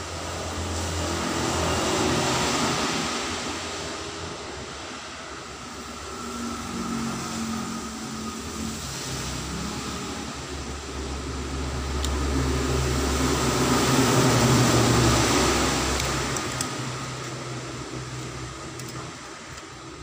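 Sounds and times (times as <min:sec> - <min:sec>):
passing vehicle motor drone: 0:00.2 - 0:18.6.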